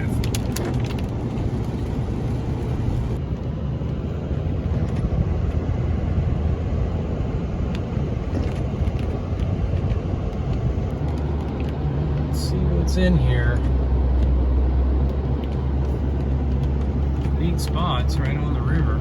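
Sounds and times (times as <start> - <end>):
truck engine and tyres rumbling: 0.0 - 19.0.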